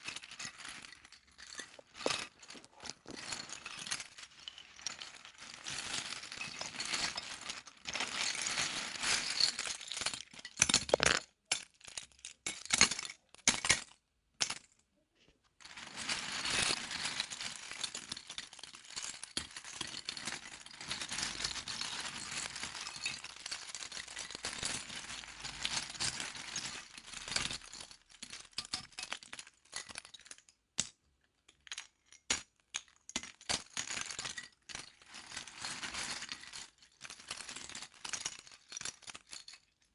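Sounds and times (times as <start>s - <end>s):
plastic pieces rattling and clinking: 0.0s - 14.7s, 15.6s - 39.9s.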